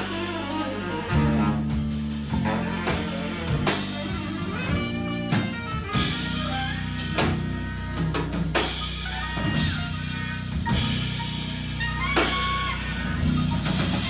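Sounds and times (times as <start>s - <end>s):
band playing rock music: 0.0s - 14.0s.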